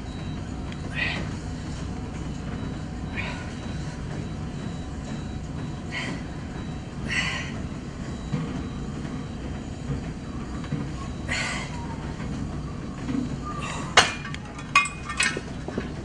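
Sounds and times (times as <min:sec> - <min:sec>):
cable and weight stack rattling: 0:00.0 - 0:16.0
cable machine low rumble: 0:00.0 - 0:16.0.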